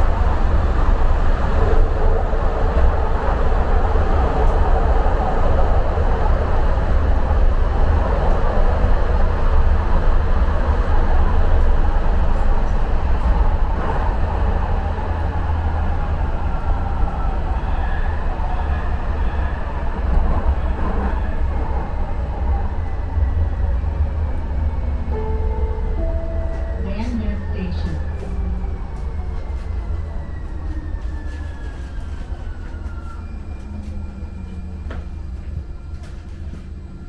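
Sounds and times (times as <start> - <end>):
train rumbling through tunnel: 0.0 - 37.0.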